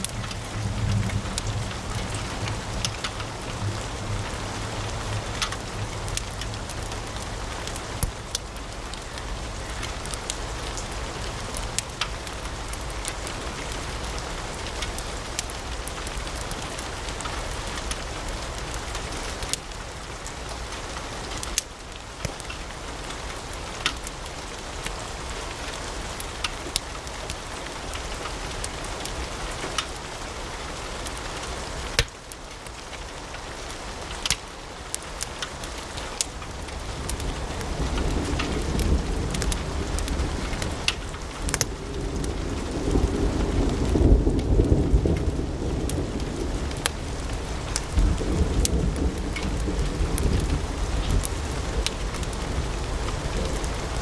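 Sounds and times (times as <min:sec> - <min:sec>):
wood fire crackling and popping: 0:00.0 - 0:30.3, 0:31.0 - 0:54.0.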